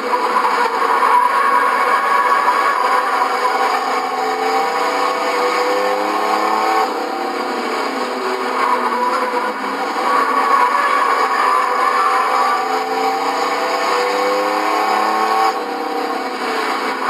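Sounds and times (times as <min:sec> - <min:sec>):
racing truck engines passing: 0:00.0 - 0:17.0.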